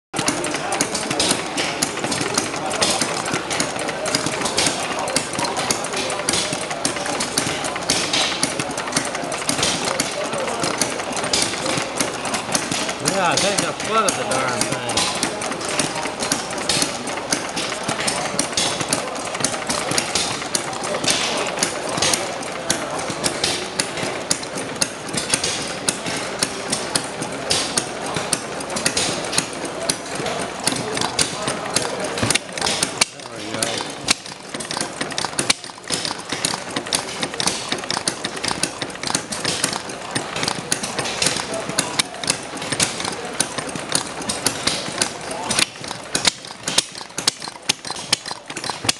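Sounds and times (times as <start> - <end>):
mechanical clatter: 0.2 - 48.9
small engine chugging: 0.2 - 48.9.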